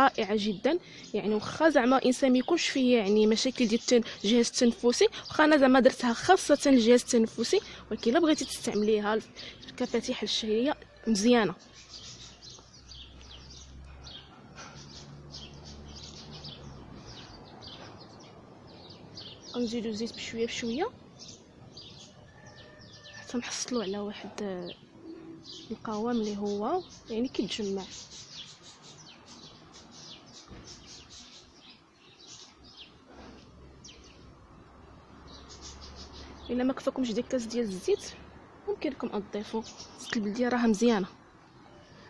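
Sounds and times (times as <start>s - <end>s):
songbirds chirping and twittering: 0.0s - 42.0s.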